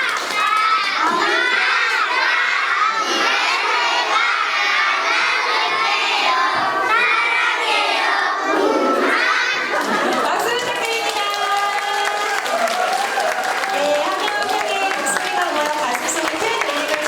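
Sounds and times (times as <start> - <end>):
children shouting and cheering: 0.0 - 17.0.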